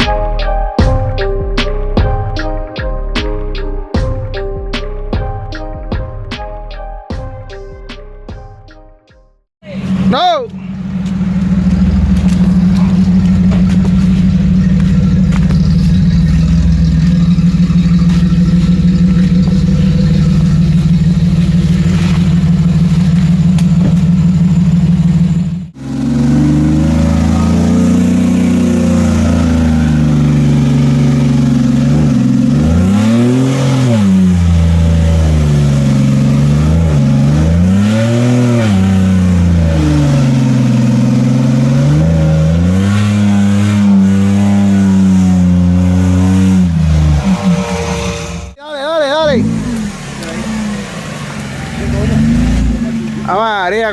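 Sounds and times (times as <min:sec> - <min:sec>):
off-road engine running and revving: 0:09.6 - 0:48.6, 0:49.2 - 0:53.9.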